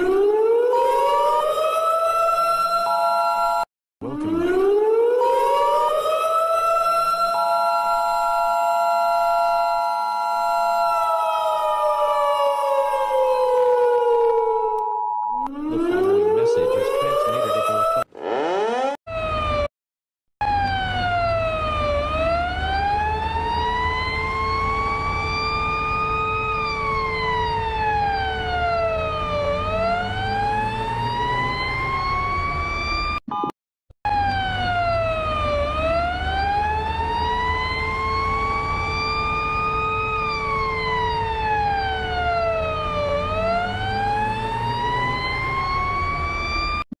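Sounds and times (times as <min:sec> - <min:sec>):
wailing siren: 0:00.0 - 0:19.7, 0:20.4 - 0:33.2, 0:34.1 - 0:46.9.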